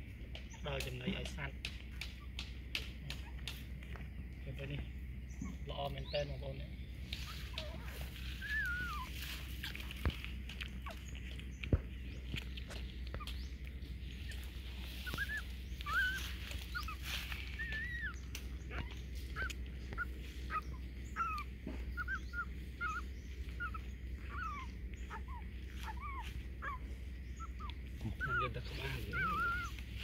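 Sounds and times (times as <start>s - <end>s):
puppies squeaking and whimpering: 0.0s - 30.0s.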